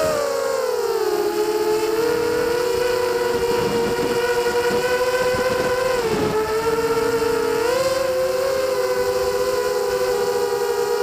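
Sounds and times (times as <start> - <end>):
drone motors whining: 0.0 - 11.0
rushing wind noise: 1.0 - 11.0.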